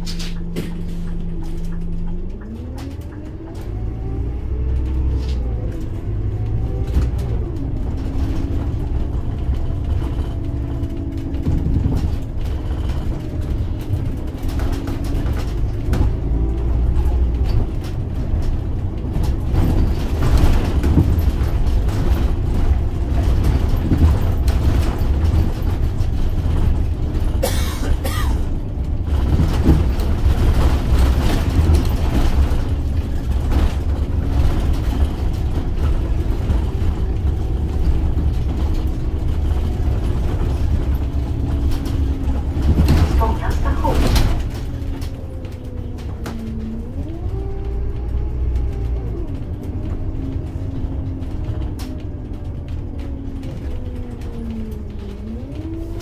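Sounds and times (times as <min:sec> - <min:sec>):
body and fittings rattling: 0:00.0 - 0:56.0
bus engine and road rumble: 0:00.0 - 0:56.0.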